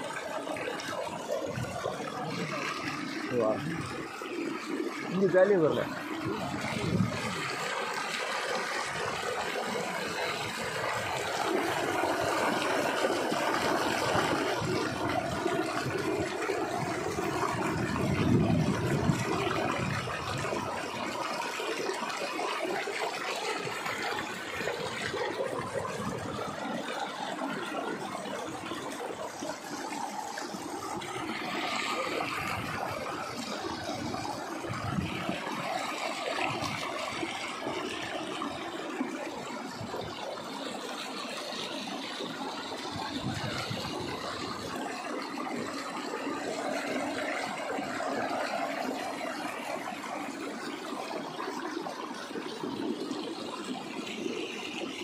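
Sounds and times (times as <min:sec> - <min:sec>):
water gushing and splashing: 0:00.0 - 0:55.0.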